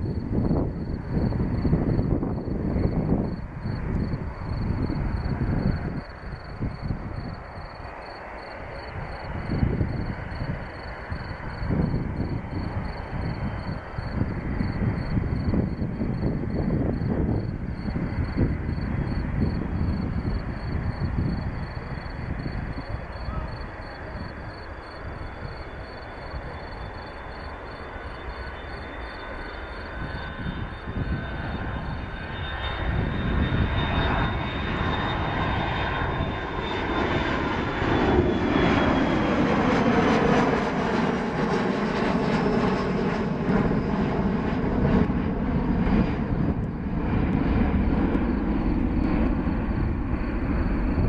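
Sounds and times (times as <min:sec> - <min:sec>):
jet engines at takeoff: 0:00.0 - 0:51.0.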